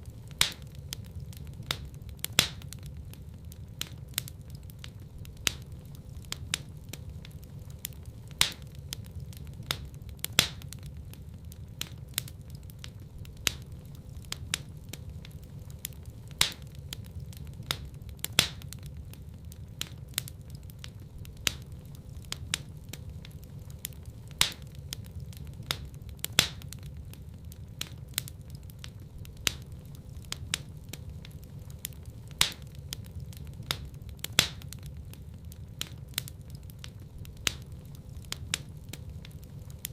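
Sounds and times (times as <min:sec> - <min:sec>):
fire popping: 0:00.0 - 0:39.9
low rumble of flame: 0:00.0 - 0:39.9
wood fire crackling: 0:00.0 - 0:39.9.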